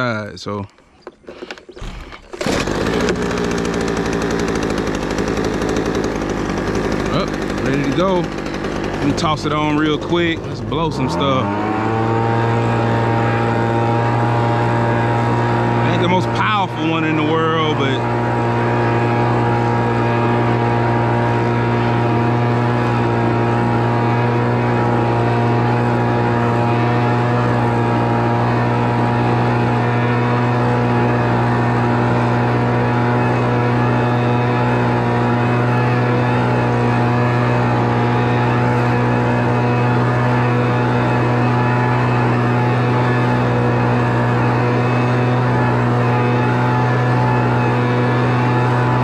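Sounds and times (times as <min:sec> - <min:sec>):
leaf blower engine running: 0:00.0 - 0:49.0.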